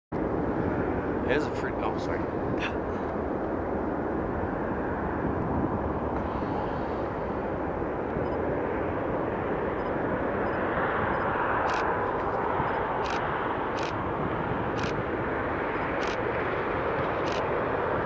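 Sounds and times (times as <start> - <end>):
jet engines rushing: 0.2 - 18.0.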